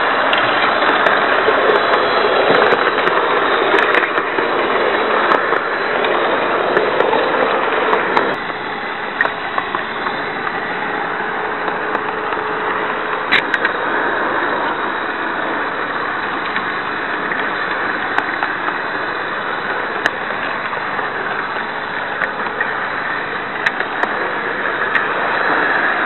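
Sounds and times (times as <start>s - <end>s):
model train rushing hiss: 0.0s - 26.0s.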